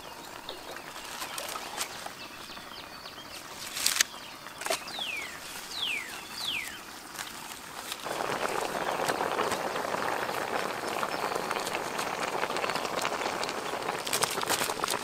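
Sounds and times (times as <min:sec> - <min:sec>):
soup bubbling in a wok: 0:00.0 - 0:03.5, 0:04.1 - 0:15.0
sharp crackles: 0:00.2 - 0:15.0.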